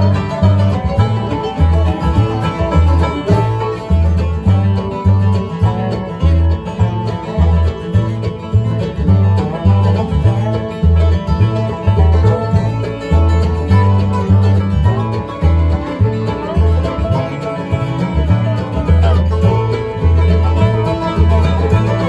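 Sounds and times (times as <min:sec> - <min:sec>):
banjo rolls: 0:00.0 - 0:22.0
bluegrass band playing: 0:00.0 - 0:22.0
low bass notes: 0:00.0 - 0:22.0.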